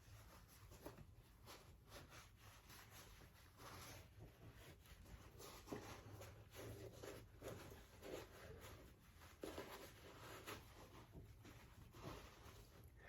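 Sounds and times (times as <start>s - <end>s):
faint scratchy rubbing on shoe: 0.0s - 13.0s.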